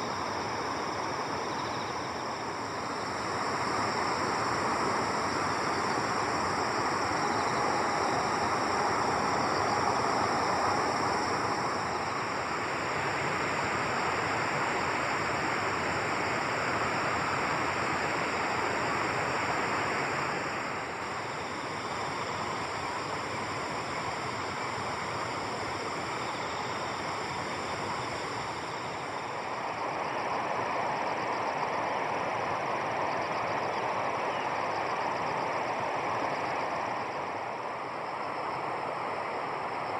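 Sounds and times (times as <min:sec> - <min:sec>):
steady rushing outdoor noise: 0:00.0 - 0:39.9.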